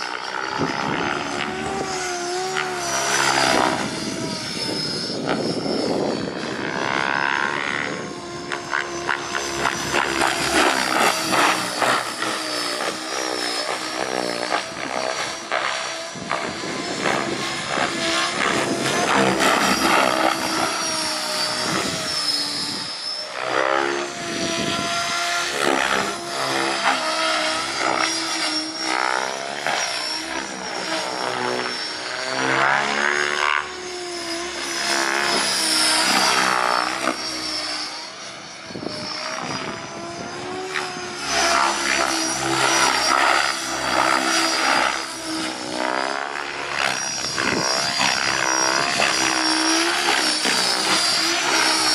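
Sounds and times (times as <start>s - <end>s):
rc helicopter rotors whirring: 0.0s - 51.9s.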